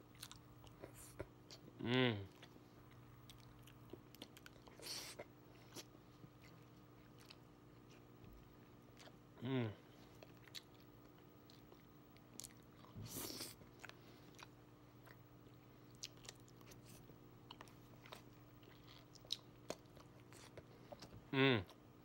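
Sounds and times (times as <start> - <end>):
low steady hum: 0.0 - 22.0
person chewing: 0.1 - 21.8.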